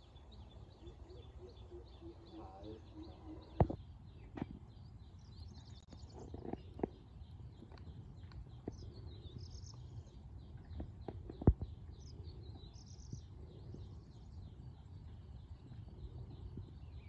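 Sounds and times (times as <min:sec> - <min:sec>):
birds chirping rapidly: 0:00.1 - 0:17.0.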